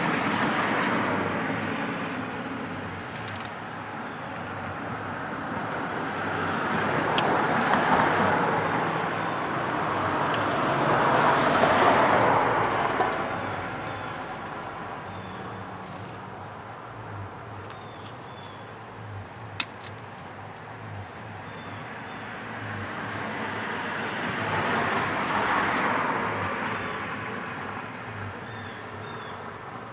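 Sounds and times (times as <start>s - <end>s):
vehicles driving past: 0.0s - 29.9s.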